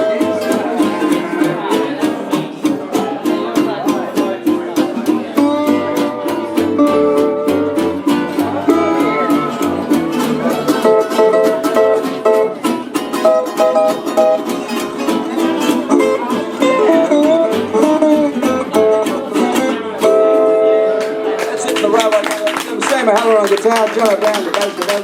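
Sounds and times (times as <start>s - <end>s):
bass: 0.0s - 24.3s
strummed ukulele and guitars: 0.0s - 25.0s.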